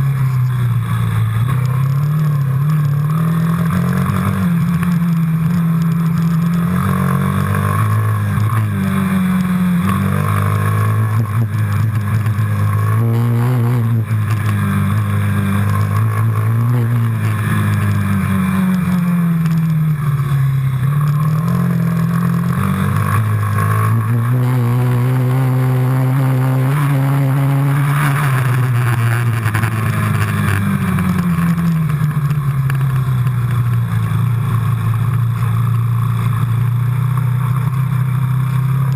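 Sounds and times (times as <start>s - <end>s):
quad bike engine revving: 0.0s - 38.9s.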